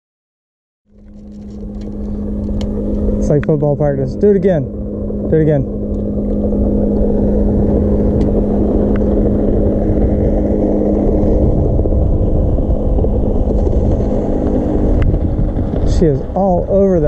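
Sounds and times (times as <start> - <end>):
electric trolling motor humming: 0.9 - 17.0
low rumble: 0.9 - 17.0.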